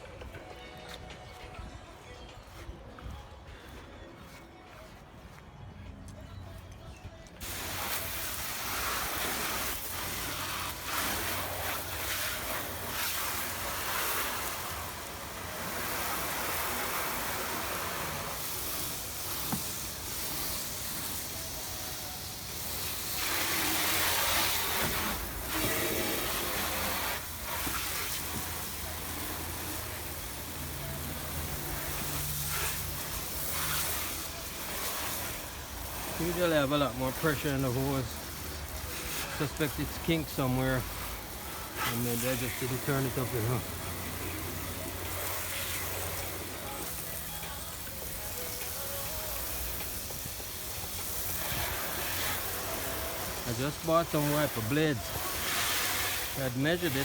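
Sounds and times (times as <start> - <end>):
garden hose spraying water: 7.4 - 57.0.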